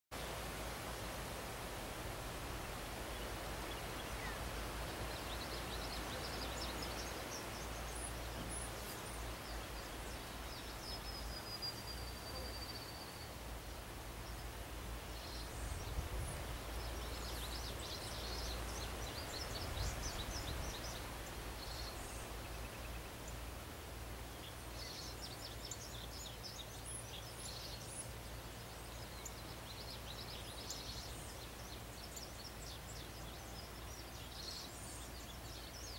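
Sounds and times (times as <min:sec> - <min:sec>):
steady hiss: 0:00.1 - 0:35.9
songbirds chirping and trilling: 0:00.2 - 0:35.9.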